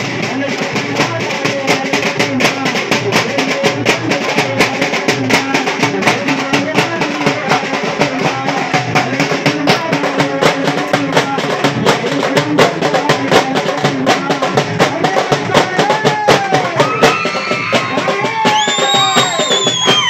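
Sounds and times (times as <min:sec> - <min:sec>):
fast drumming with sticks: 0:00.0 - 0:20.0
man singing into microphone: 0:00.0 - 0:20.0.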